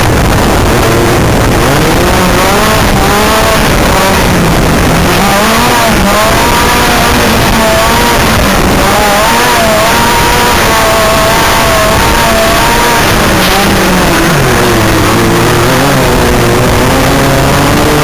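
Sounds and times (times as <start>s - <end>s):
buggy engine revving: 0.0s - 18.0s
heavy rushing noise: 0.0s - 18.0s.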